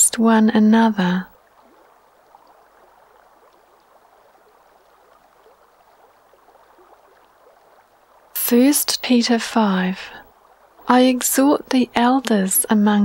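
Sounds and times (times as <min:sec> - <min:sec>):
stream babbling: 0:00.0 - 0:13.0.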